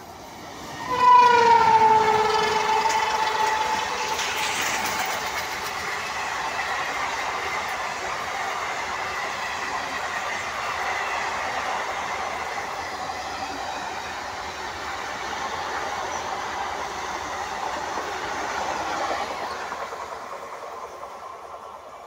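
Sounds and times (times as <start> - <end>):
train wheels rattling on rails: 0.0 - 22.0.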